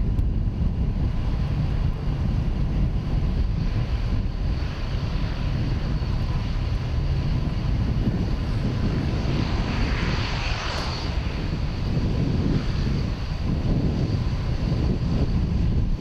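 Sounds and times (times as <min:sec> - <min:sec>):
jet engine whine and roar: 0:00.0 - 0:16.0
jet engines rumbling: 0:00.0 - 0:16.0.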